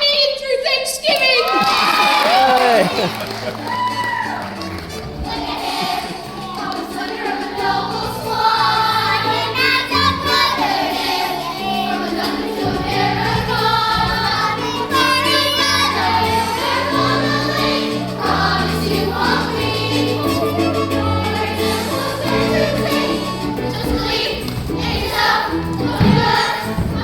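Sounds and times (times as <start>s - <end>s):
children's chorus singing: 1.6s - 27.0s
instrumental accompaniment: 2.9s - 27.0s.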